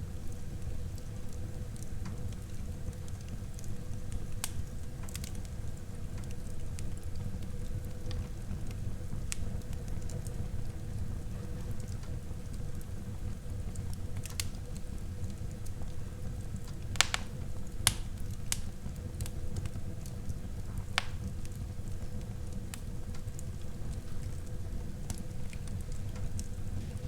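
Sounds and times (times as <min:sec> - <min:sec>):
fire pops and crackles: 0:00.0 - 0:27.0
low rumble of flames: 0:00.0 - 0:27.0.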